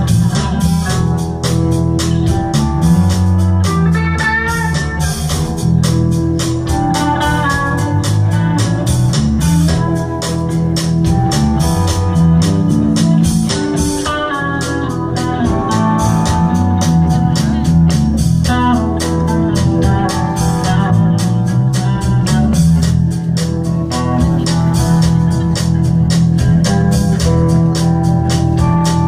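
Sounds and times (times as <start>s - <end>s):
bass: 0.0s - 29.0s
drums steady beat: 0.0s - 29.0s
electric guitar: 0.0s - 29.0s
organ chords: 0.0s - 29.0s.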